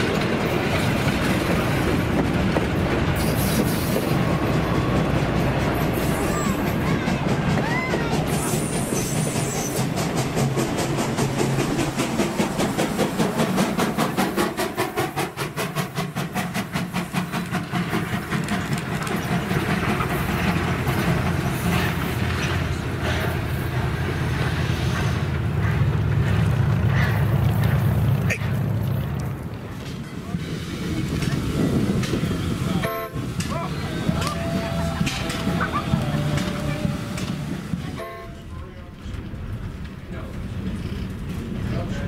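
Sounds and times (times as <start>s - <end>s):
train passing by: 0.0s - 42.0s.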